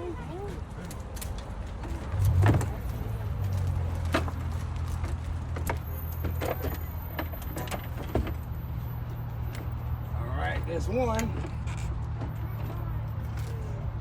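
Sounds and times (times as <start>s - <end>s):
low vehicle rumble: 0.0s - 14.0s
bicycles clicking and knocking: 0.8s - 13.8s.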